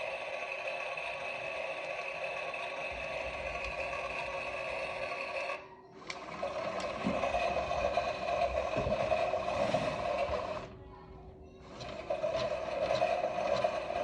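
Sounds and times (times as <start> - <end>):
toy washing machine motor whine: 0.0 - 10.8, 11.5 - 14.0.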